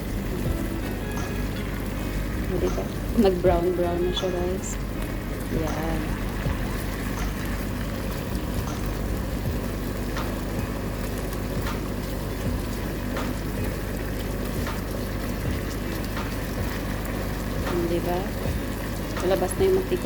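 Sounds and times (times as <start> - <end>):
chicken sizzling in a pot: 0.0 - 20.0.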